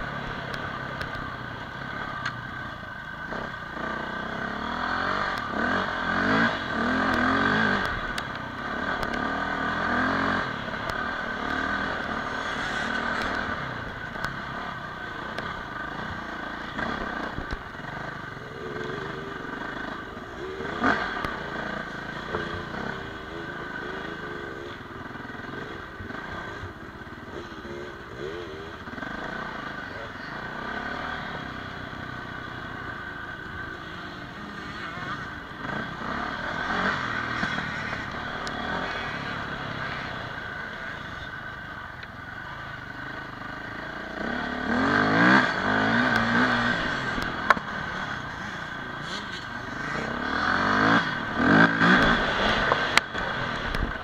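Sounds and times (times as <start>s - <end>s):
dirt bike engine revving: 3.0s - 41.4s, 42.4s - 54.0s.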